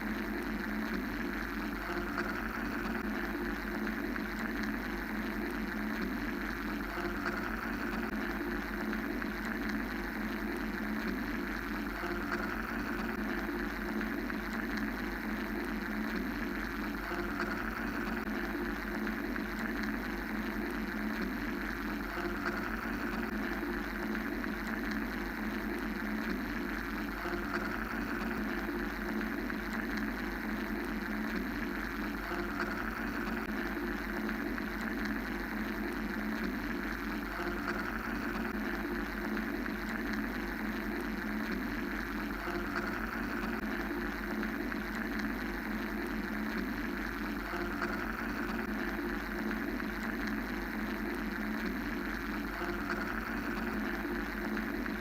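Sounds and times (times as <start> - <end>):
machine hum and hiss: 0.0 - 55.0.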